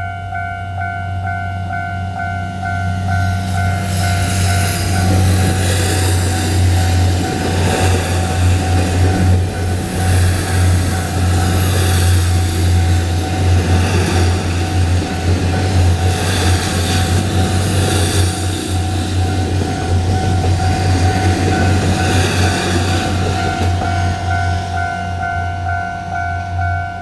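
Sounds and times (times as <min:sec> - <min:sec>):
crossing warning bell ringing: 0:00.0 - 0:27.0
low diesel drone: 0:00.0 - 0:27.0.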